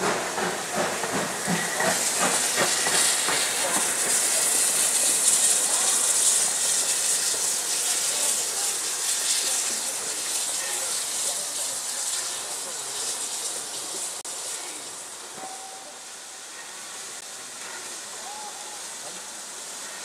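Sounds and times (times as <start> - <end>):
loud hiss of escaping steam: 0.0 - 20.0
steam locomotive exhaust beats: 0.0 - 20.0.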